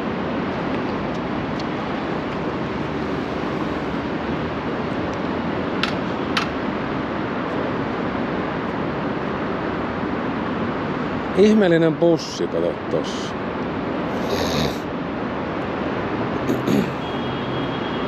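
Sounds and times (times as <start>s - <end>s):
outdoor street noise: 0.0s - 18.0s.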